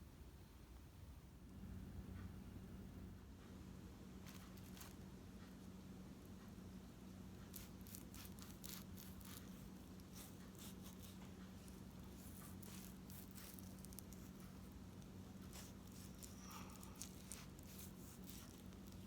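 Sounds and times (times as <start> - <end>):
steady low hum: 0.0 - 19.0
faint ticks and rustles: 3.3 - 19.0.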